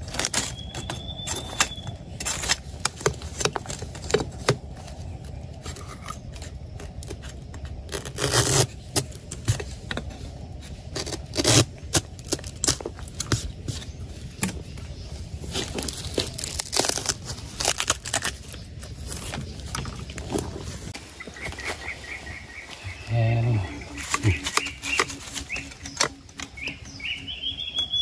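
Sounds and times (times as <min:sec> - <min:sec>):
rustling leaves and twigs: 0:00.0 - 0:28.0.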